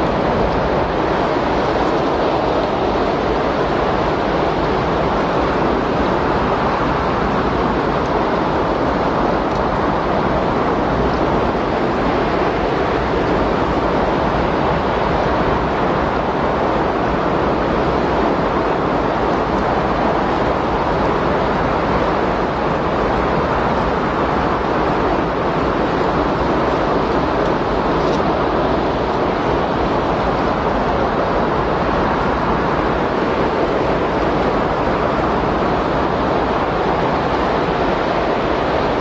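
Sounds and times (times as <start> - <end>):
steady wind rushing: 0.0 - 39.0.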